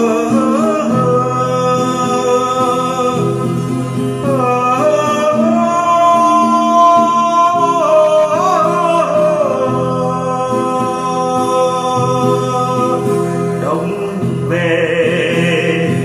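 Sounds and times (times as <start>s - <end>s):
acoustic guitar: 0.0s - 16.0s
man singing: 0.0s - 16.0s.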